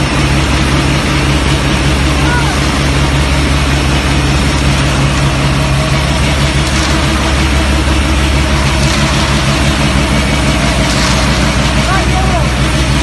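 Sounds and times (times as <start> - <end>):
concrete mixer pump droning: 0.0 - 13.0.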